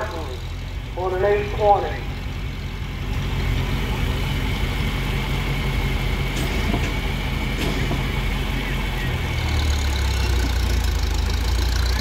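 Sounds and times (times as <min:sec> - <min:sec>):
tractor engine drone: 0:00.0 - 0:12.0.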